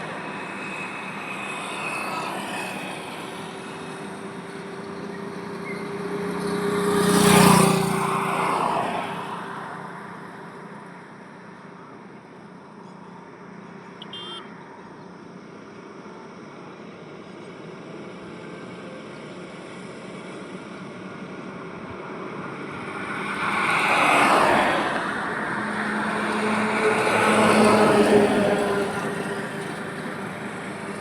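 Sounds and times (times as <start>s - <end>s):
highway traffic rumble: 0.0s - 31.0s.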